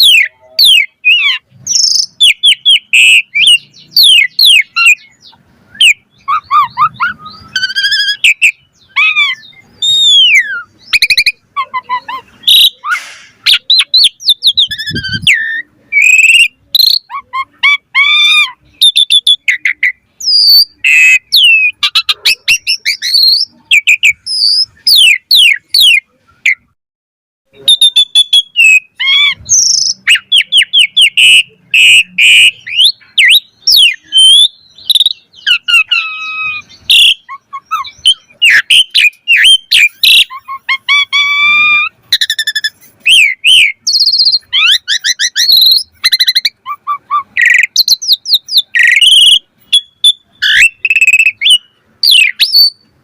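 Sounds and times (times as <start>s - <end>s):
starling singing: 0.0s - 26.8s, 27.5s - 53.0s.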